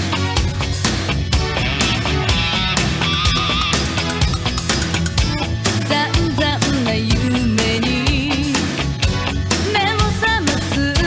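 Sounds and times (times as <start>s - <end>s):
rock band song: 0.0s - 11.0s.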